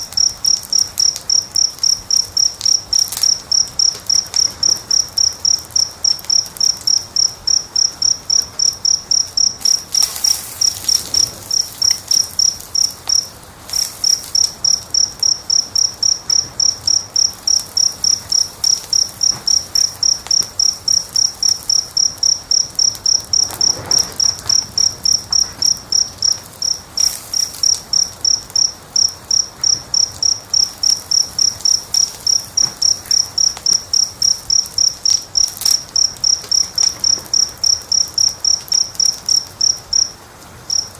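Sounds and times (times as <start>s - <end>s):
cricket chirping: 0.0s - 40.9s
wood fire crackling: 0.0s - 40.9s.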